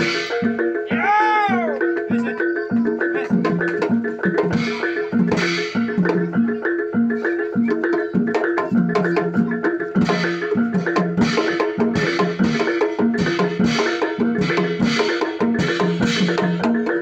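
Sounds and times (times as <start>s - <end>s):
bronze mallet instruments: 0.0s - 17.0s.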